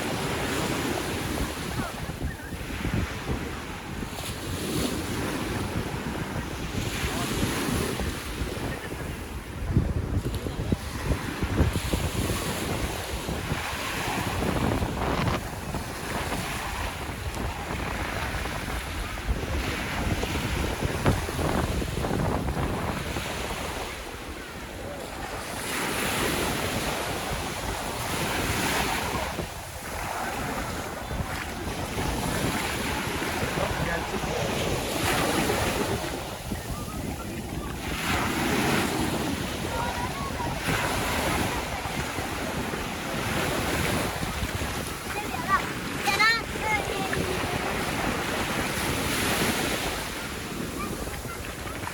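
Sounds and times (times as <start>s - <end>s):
sea waves breaking on shore: 0.0s - 51.9s
wind buffeting microphone: 0.0s - 51.9s.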